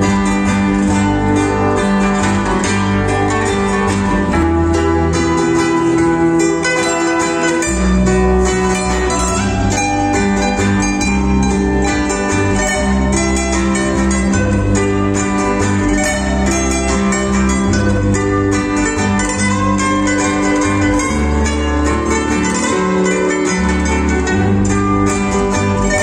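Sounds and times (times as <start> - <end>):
acoustic guitars playing: 0.0 - 26.0
low bass line: 0.0 - 26.0.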